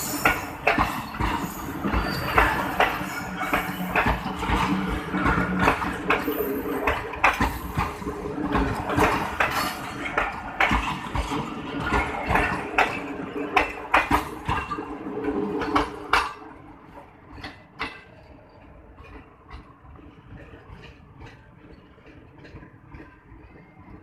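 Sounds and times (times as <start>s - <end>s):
train wheels clattering on rails: 0.0s - 24.0s.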